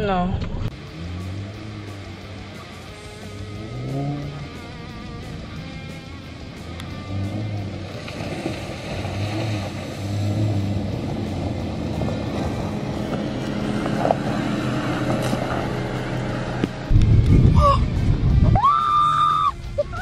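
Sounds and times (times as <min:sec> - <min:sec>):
car driving over dirt track: 0:00.0 - 0:18.7
background music: 0:00.7 - 0:20.0.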